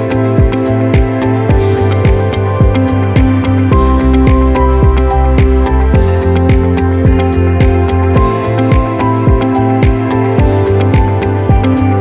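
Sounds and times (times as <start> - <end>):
sustained chords: 0.0 - 12.0.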